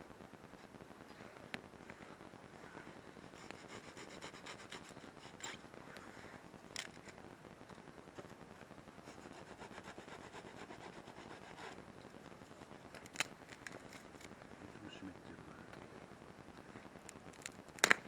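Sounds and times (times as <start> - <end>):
campfire crackling: 0.0 - 18.0
campfire popping: 0.1 - 18.0.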